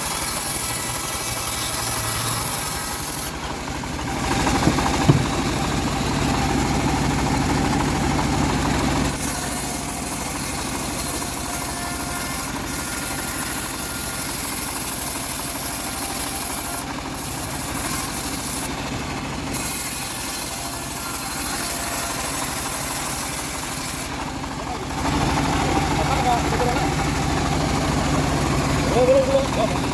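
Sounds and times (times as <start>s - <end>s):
sawmill engine running: 0.0s - 29.9s.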